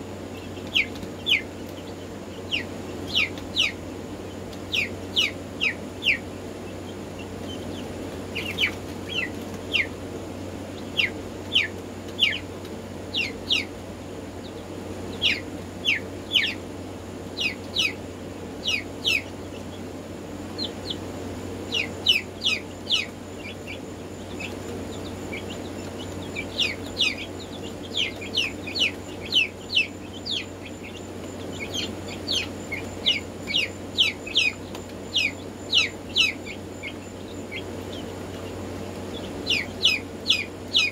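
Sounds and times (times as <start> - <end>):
chicks peeping: 0.0 - 40.9
steady low hum: 0.0 - 40.9.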